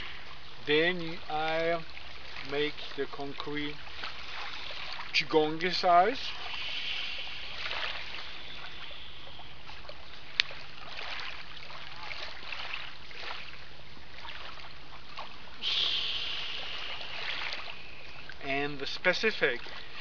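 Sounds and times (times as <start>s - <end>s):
lake waves lapping on shore: 0.0s - 20.0s
steady outdoor hiss: 0.0s - 20.0s.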